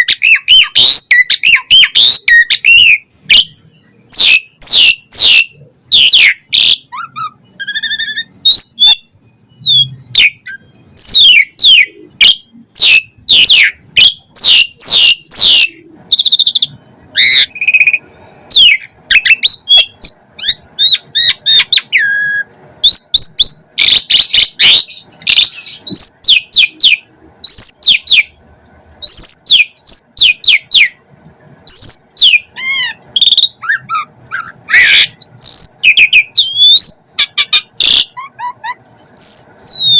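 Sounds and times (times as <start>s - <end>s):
starling singing whistles: 0.0s - 28.4s, 29.0s - 31.0s, 31.7s - 39.9s.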